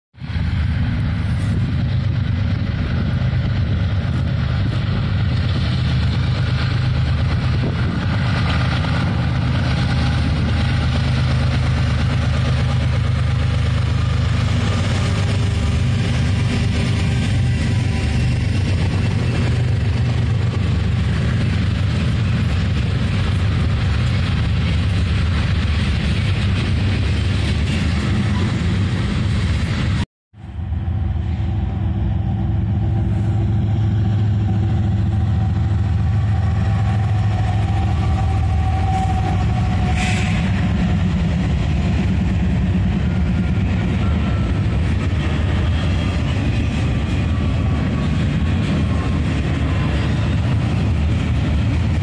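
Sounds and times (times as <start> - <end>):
diesel locomotives passing: 0.2 - 52.0
train cars rolling on rails: 0.2 - 52.0.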